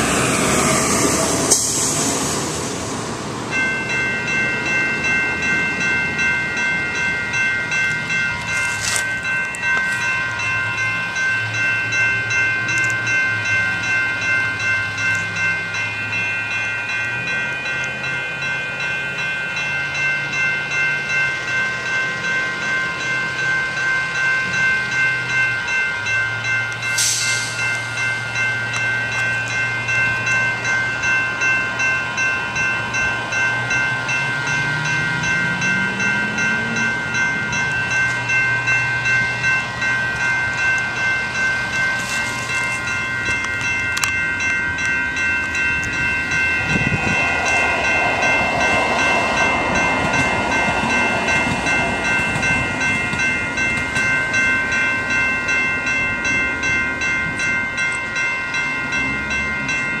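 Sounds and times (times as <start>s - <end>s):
railroad crossing bells ringing: 0.0s - 60.0s
train wheels rolling on rails: 0.0s - 60.0s.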